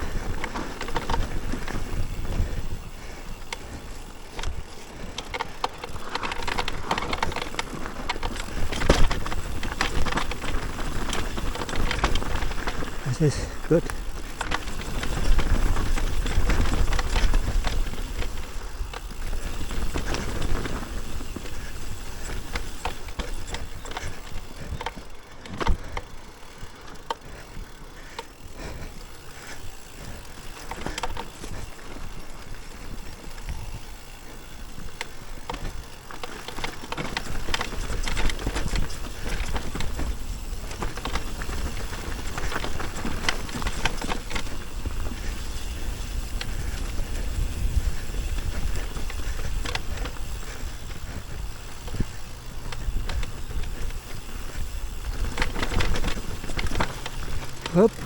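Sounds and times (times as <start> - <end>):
bike rattling and knocking: 0.0 - 58.0
bike tyres rumbling on dirt: 0.0 - 58.0.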